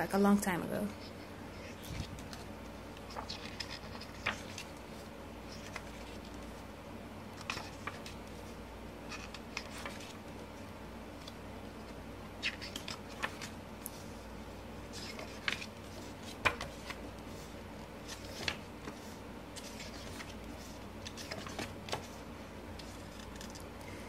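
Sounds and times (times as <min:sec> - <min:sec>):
low background hum: 0:00.0 - 0:24.0
paper pages rustling: 0:01.0 - 0:06.6, 0:07.4 - 0:10.6, 0:11.2 - 0:23.9.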